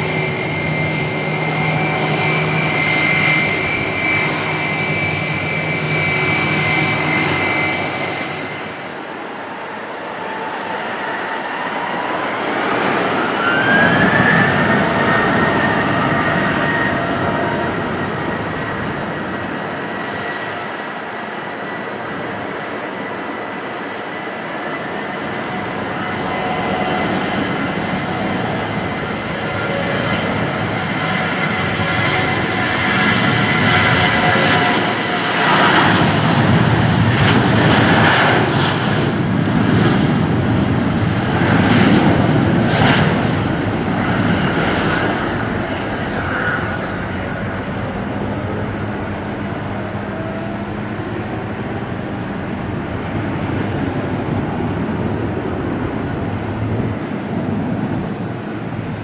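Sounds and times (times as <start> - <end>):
jet engines at takeoff: 0.0 - 59.0.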